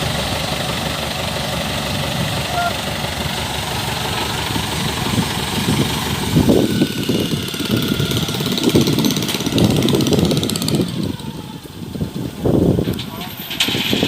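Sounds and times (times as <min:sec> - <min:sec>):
combine harvester diesel engine: 0:00.0 - 0:14.0.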